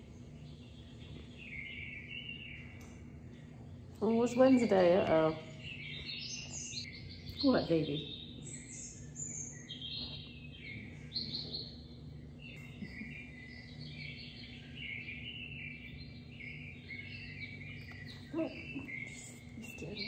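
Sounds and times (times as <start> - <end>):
high chirping: 0.0 - 20.0
steady low hum: 0.0 - 20.0.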